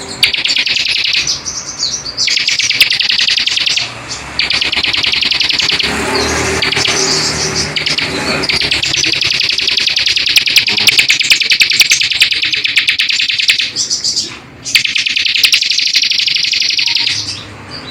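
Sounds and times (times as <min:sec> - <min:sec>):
songbird chattering: 0:00.0 - 0:17.9.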